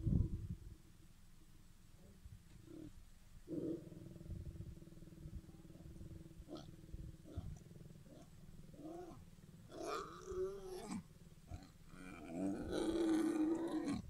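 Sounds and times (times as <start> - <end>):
lion growling: 2.6 - 14.0.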